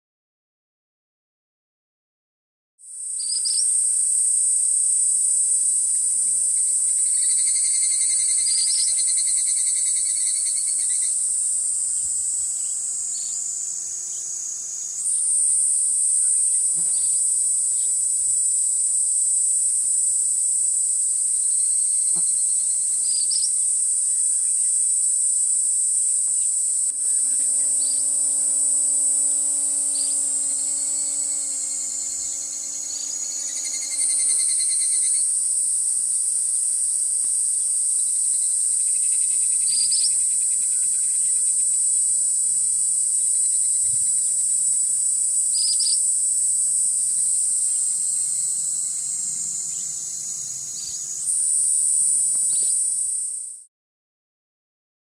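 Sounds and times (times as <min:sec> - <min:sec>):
high-pitched insect drone: 0:02.8 - 0:53.7.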